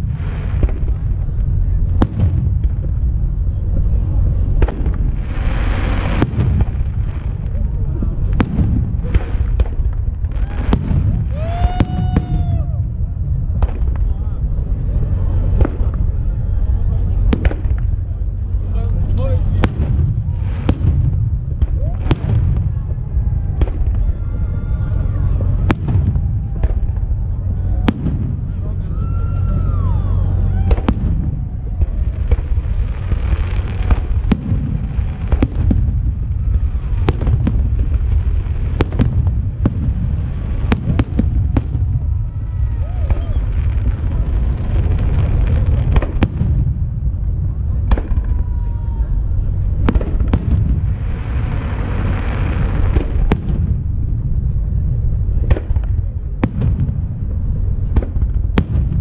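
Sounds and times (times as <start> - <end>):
fireworks bangs and booms: 0.0 - 59.0
low rumble: 0.0 - 59.0.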